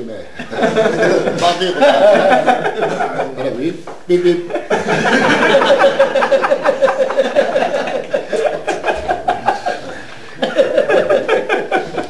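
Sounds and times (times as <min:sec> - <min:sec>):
man laughing hard: 0:00.4 - 0:03.4, 0:04.5 - 0:12.0.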